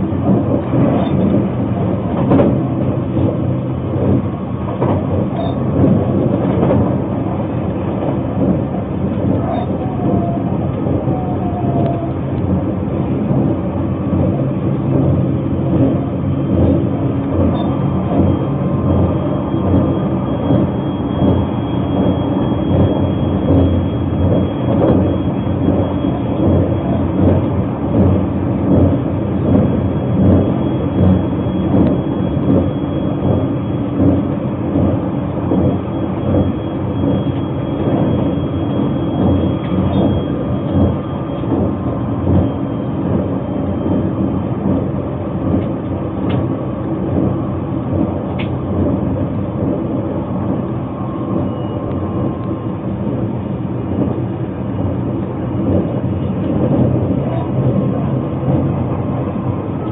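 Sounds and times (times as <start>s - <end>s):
train wheels rumbling on rail: 0.0s - 59.9s
faint high whine: 6.9s - 59.9s.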